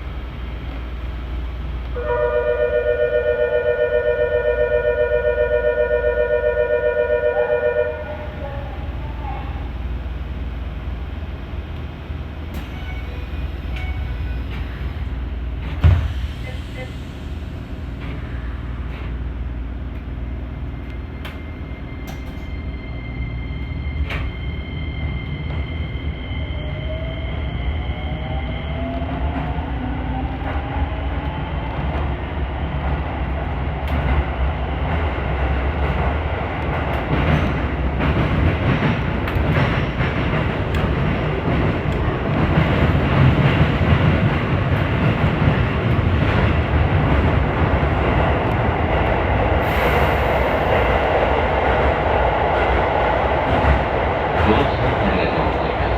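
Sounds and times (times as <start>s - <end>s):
electric train rumbling on rails: 0.0s - 55.9s.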